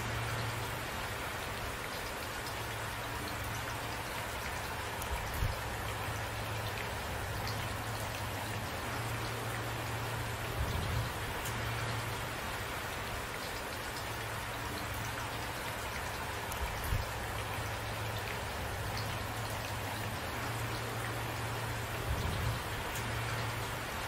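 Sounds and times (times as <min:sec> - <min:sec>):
raindrop ticks: 0:00.0 - 0:24.0
steady rainfall: 0:00.0 - 0:24.0.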